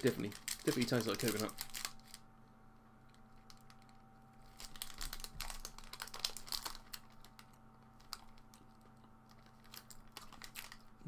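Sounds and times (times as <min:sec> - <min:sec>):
plastic candy wrapper crinkling: 0:00.0 - 0:02.3, 0:03.0 - 0:11.0.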